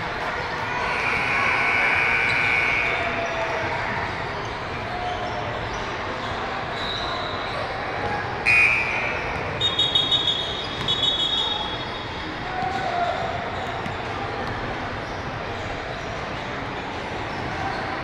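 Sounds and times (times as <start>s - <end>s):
voices in echoing gym: 0.0s - 18.0s.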